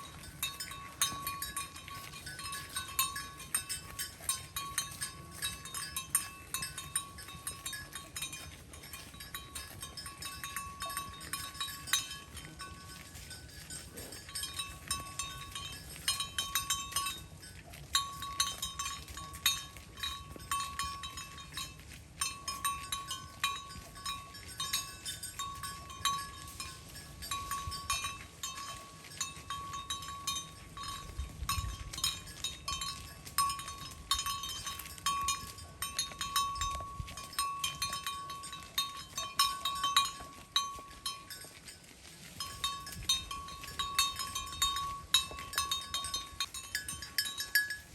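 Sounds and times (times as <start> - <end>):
cowbells clanking: 0.0 - 47.9.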